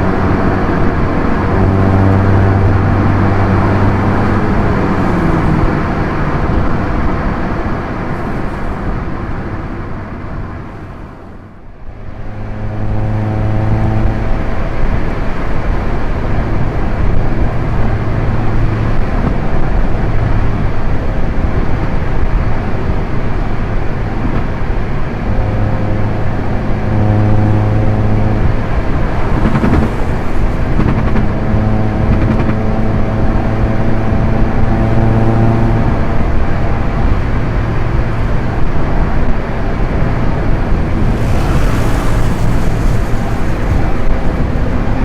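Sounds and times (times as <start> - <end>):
car engine at steady revs: 0.0 - 45.0
road noise: 0.0 - 45.0.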